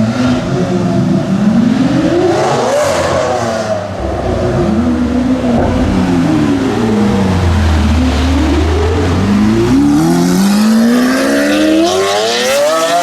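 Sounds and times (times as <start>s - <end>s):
supercar engine revving: 0.0s - 13.0s.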